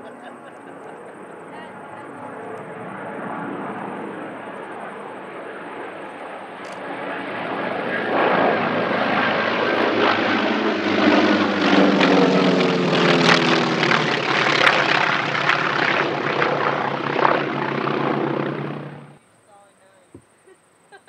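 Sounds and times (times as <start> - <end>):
propeller aircraft engines droning: 0.0 - 19.2.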